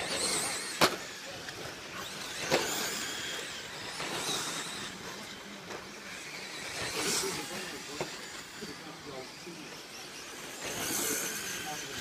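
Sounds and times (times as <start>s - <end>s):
rc truck motor whine: 0.0s - 12.0s.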